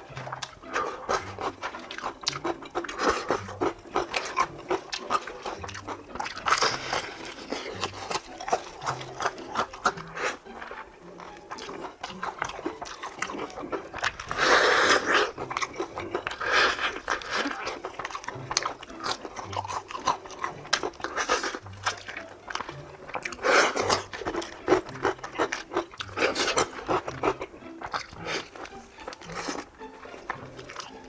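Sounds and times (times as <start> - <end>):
crackly mouth noises: 0.0 - 31.0
crunchy chewing: 0.0 - 31.0.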